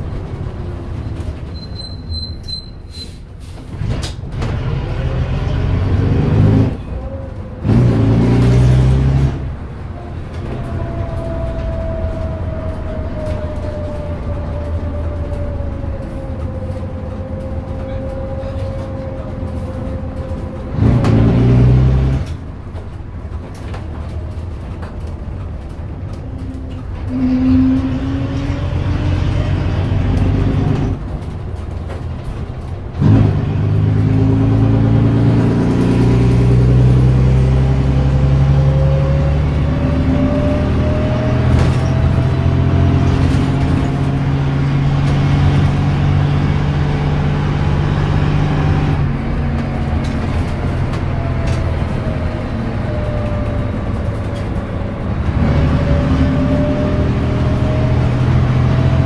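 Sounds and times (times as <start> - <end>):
bus diesel engine whining: 0.0 - 59.0.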